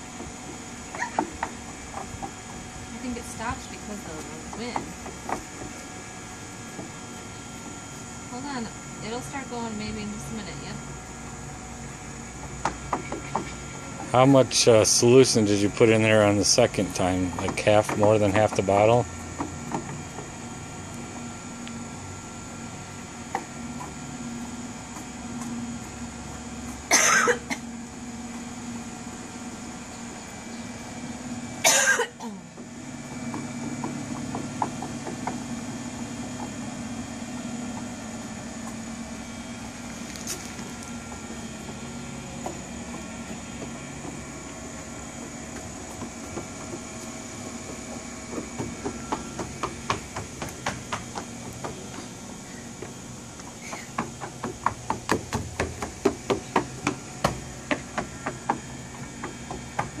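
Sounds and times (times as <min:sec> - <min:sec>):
bubble machine humming: 0:00.0 - 1:00.0
footsteps on wooden deck: 0:00.0 - 1:00.0.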